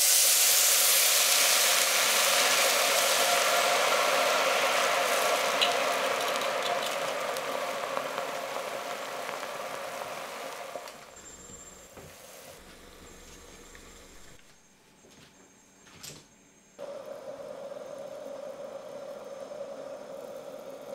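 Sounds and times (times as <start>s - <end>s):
wine sizzling in a hot pot: 0.0s - 14.4s, 16.8s - 20.9s.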